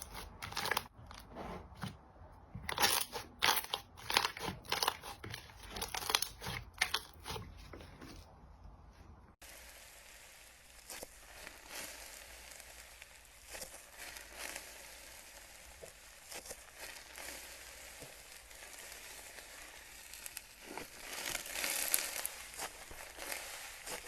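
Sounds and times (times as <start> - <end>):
slime crackling and popping: 0.0 - 0.9, 2.6 - 7.4, 9.7 - 24.0.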